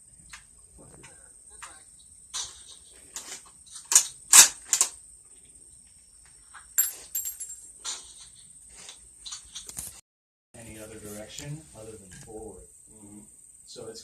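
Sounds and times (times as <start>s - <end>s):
insects chirring: 0.0s - 9.9s, 10.6s - 14.0s.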